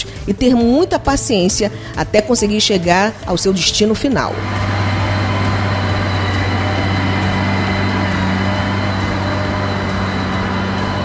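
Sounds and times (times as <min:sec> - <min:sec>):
diesel engine running: 0:01.6 - 0:11.0.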